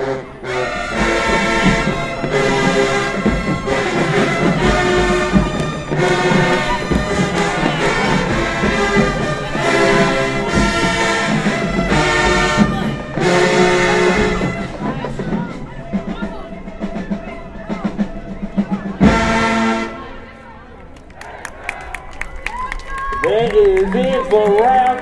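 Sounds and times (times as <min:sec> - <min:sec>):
marching band brass chords: 0:00.0 - 0:22.4.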